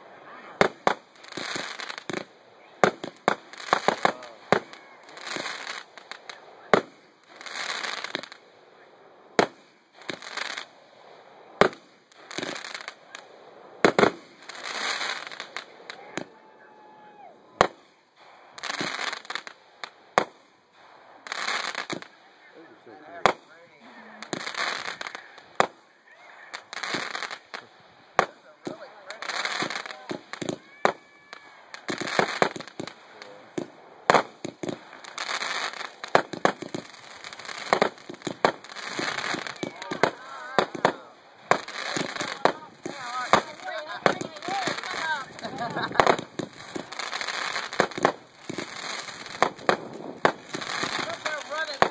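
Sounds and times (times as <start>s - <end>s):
firework crackling: 0.0s - 51.9s
firework bangs: 0.4s - 51.9s.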